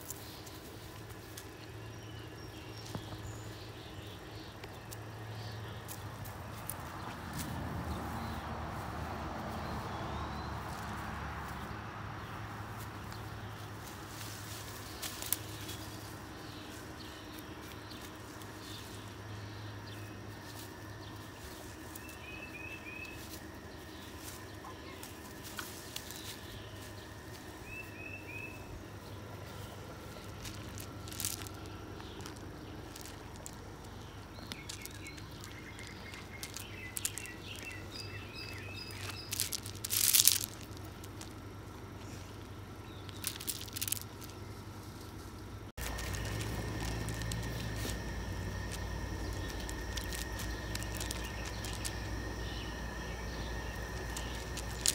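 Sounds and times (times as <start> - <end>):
leafy branches rustling: 0.0 - 54.9
small birds chirping: 0.0 - 54.9
steady low hum: 0.0 - 54.9.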